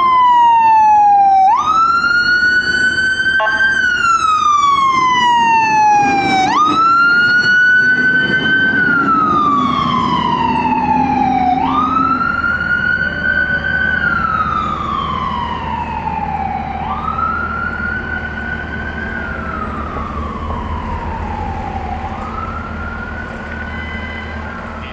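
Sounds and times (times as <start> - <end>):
ambulance siren wailing: 0.0 - 24.9.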